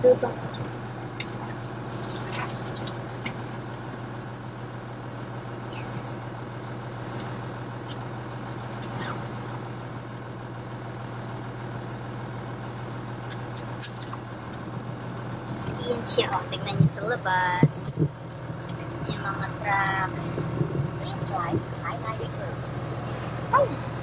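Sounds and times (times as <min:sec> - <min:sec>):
truck diesel engine humming: 0:00.0 - 0:24.0.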